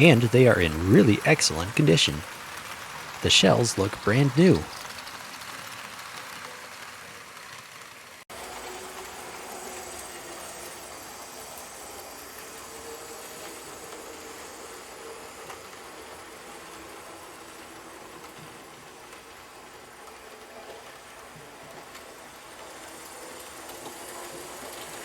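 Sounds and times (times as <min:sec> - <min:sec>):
model train motor humming: 0:00.0 - 0:25.0
model train wheels on track: 0:00.0 - 0:25.0.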